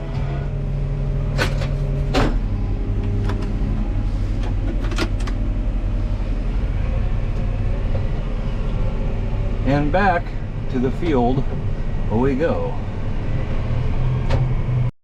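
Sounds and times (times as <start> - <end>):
tractor engine running: 0.0 - 14.9.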